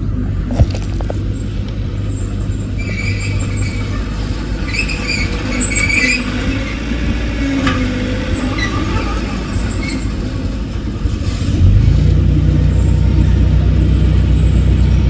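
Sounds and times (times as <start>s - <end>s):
bulldozer engine running: 0.0s - 15.0s
steel tracks squealing: 0.0s - 15.0s.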